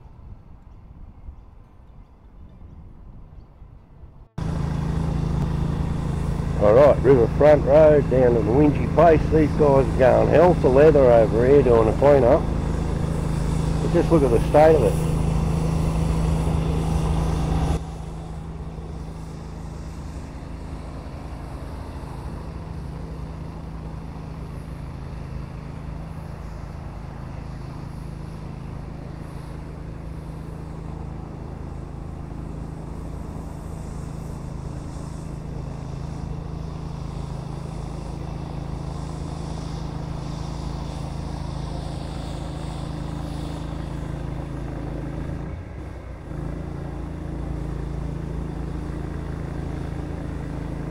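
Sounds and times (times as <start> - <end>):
pressure cleaner engine droning: 4.4 - 50.9.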